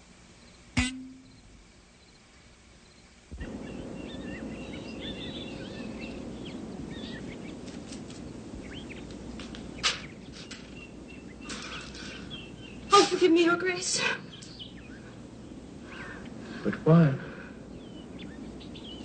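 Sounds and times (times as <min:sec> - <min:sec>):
outdoor background hiss: 0:00.0 - 0:19.0
birds chirping: 0:00.4 - 0:19.0.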